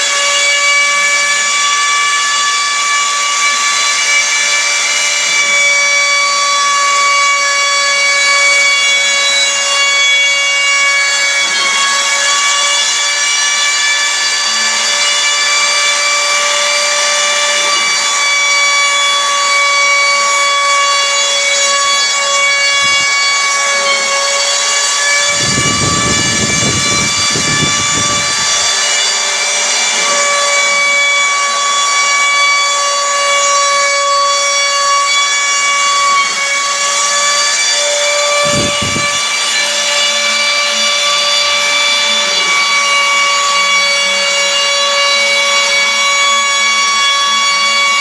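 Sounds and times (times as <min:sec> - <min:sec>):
router spindle whining: 0:00.0 - 0:48.0.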